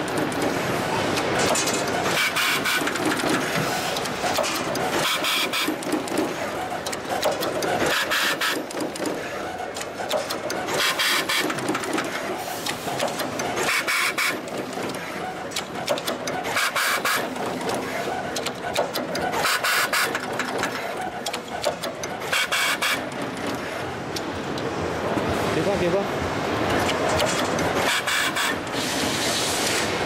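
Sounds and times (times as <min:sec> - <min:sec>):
machine clicking and clatter: 0:00.0 - 0:30.0.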